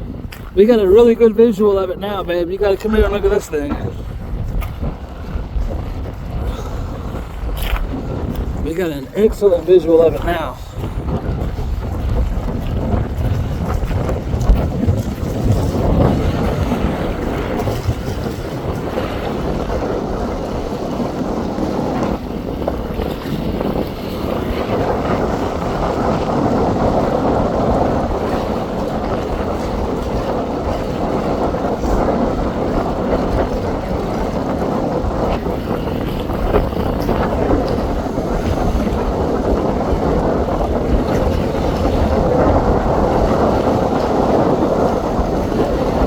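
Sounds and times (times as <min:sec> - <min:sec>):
strong wind on microphone: 0:00.0 - 0:46.0.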